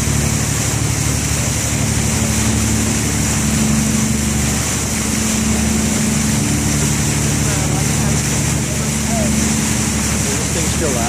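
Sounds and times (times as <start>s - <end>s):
boat engine humming: 0.0s - 11.0s
water rushing: 0.0s - 11.0s.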